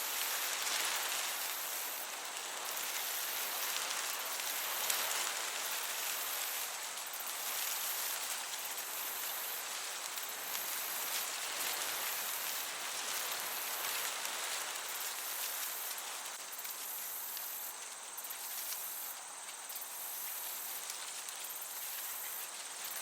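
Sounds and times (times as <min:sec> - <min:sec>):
crickets chirping: 0:00.0 - 0:23.0
gentle breeze hiss: 0:00.0 - 0:23.0.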